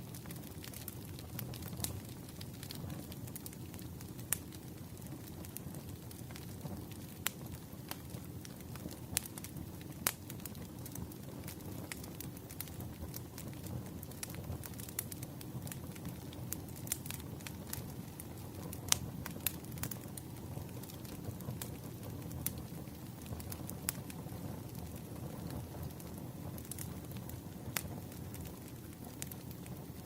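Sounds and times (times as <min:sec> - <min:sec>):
fire crackling: 0:00.0 - 0:30.0
low rumble of flames: 0:00.0 - 0:30.0.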